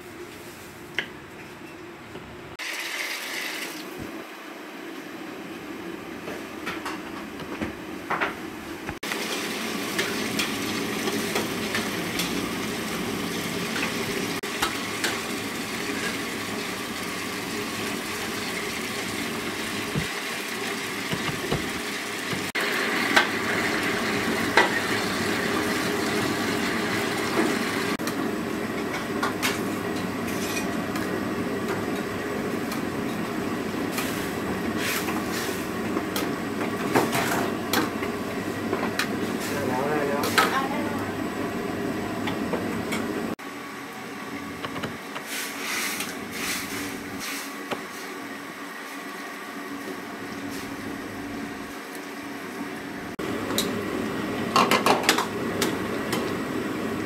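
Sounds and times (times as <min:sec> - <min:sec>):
steady kitchen hiss: 0:02.3 - 0:57.0.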